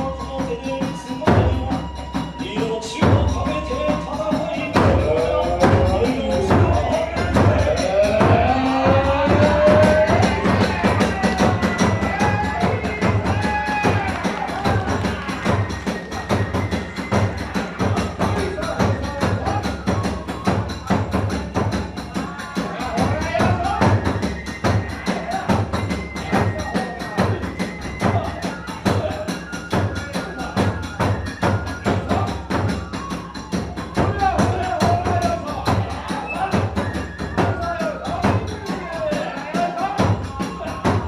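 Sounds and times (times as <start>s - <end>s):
bamboo flute melody: 0.0s - 41.0s.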